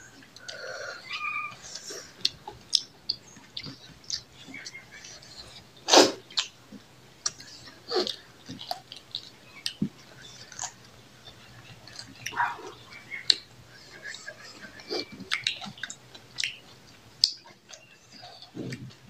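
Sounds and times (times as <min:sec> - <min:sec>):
wet chewing: 0:00.2 - 0:19.0
lip smacks: 0:00.3 - 0:06.6, 0:07.2 - 0:19.0.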